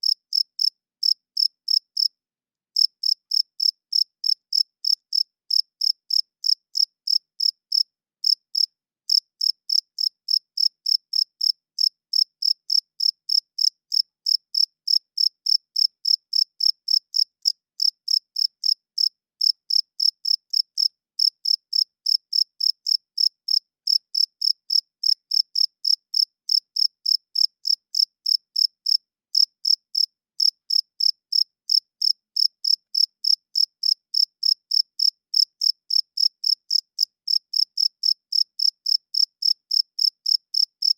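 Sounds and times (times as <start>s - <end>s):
cricket chirping: 0.0s - 2.1s, 2.8s - 40.9s.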